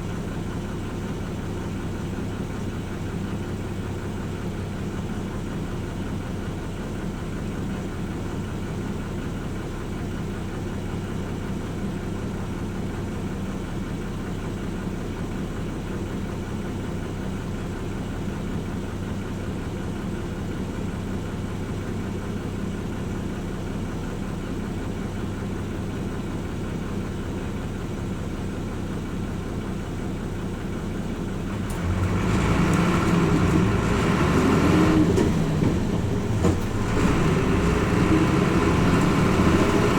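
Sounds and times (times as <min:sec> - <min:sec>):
bus diesel engine idling: 0:00.0 - 0:39.9.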